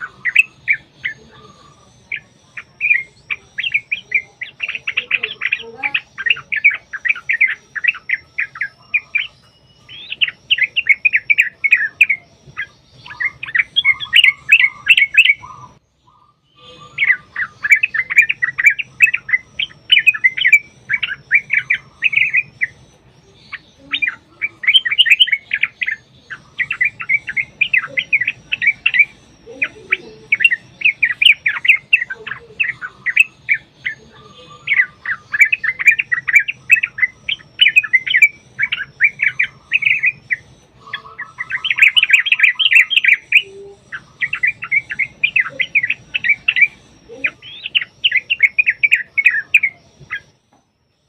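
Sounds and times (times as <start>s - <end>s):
bulbuls singing rapid phrases: 0.0s - 51.0s.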